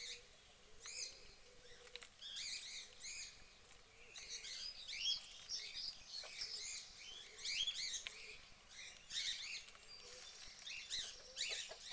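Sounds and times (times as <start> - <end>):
songbirds chirping: 0.0 - 11.9.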